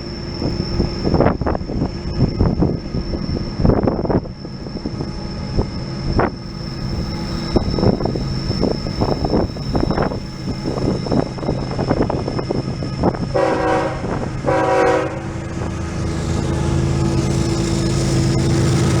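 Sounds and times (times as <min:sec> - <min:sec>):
locomotive engine drone: 0:00.0 - 0:19.0
wind buffeting microphone: 0:00.0 - 0:19.0.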